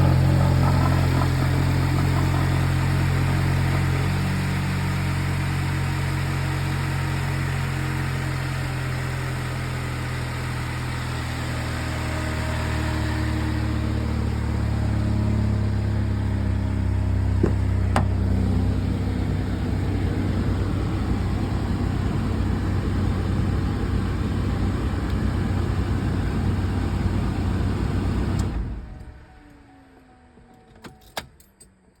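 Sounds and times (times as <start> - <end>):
car engine idling: 0.0 - 6.4, 7.1 - 29.2.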